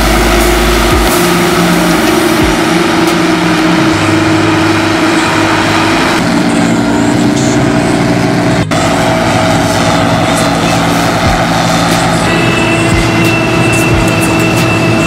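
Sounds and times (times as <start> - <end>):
combine harvester humming: 0.0 - 15.0.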